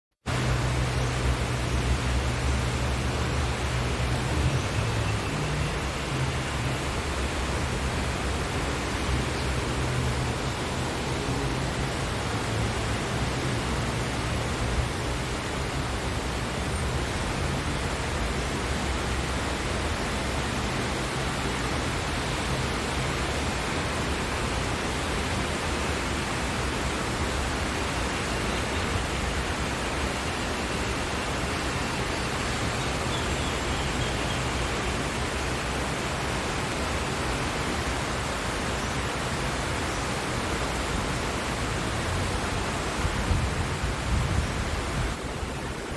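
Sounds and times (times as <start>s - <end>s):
steady rainfall: 0.2s - 45.9s.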